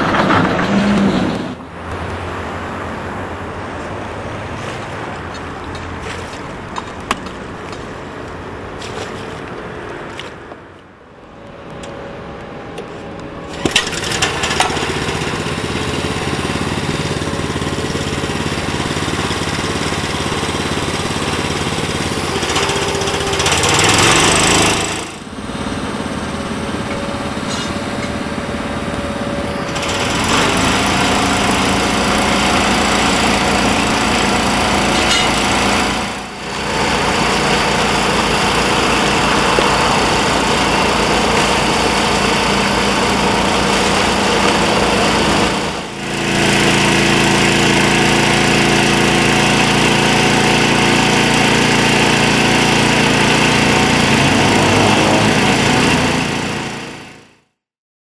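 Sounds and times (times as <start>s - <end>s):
petrol engine running: 0.0s - 8.8s, 11.3s - 57.5s.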